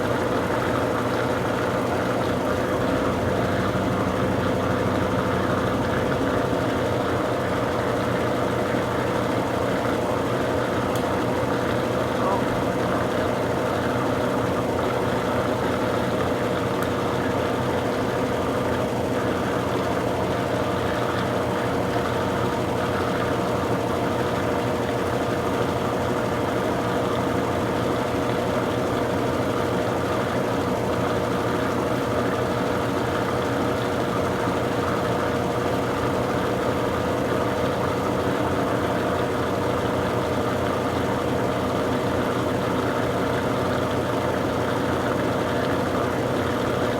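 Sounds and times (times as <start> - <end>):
washing machine motor whine: 0.0 - 46.9.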